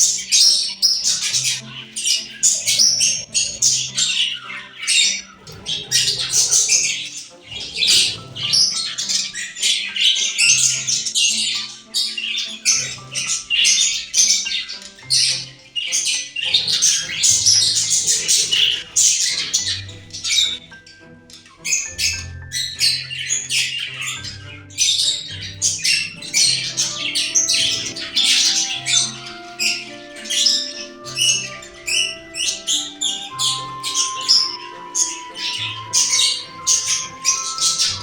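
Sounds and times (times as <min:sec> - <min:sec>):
background music with bass: 0:00.0 - 0:38.0
budgerigars chattering and squawking: 0:00.0 - 0:38.0.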